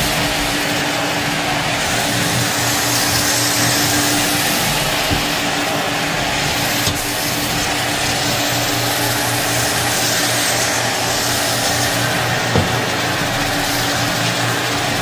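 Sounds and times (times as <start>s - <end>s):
vacuum cleaner running over carpet: 0.0s - 15.0s.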